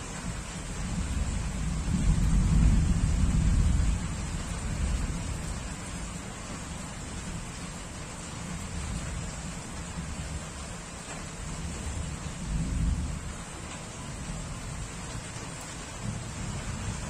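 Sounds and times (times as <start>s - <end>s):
heavy rain falling: 0.0s - 17.0s
low rumble of thunder: 0.0s - 17.0s.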